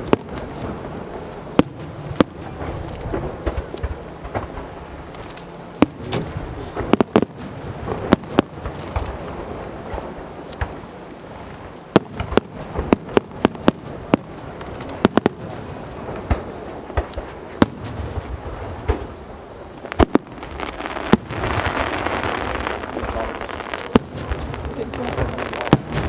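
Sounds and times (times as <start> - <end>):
fireworks bangs: 0.0 - 26.0
rumble of distant fireworks: 0.0 - 26.0.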